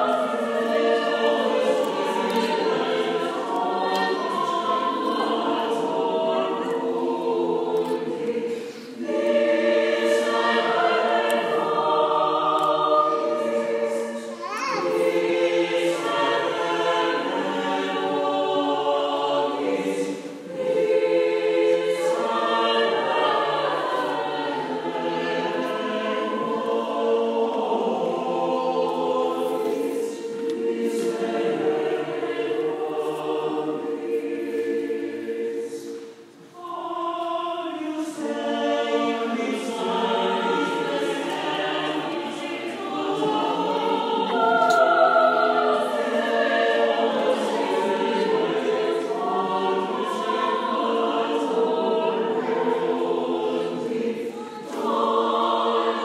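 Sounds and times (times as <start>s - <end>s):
choir singing sacred music: 0.0s - 56.0s.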